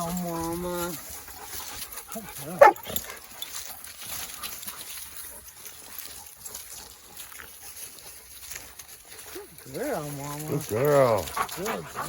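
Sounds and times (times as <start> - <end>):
dog panting and snuffling: 0.0 - 12.0.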